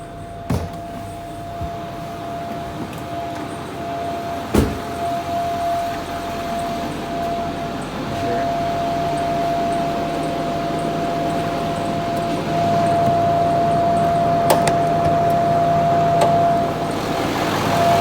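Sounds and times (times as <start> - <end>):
diesel engine running: 0.0 - 18.0
steady humming tone: 0.0 - 18.0.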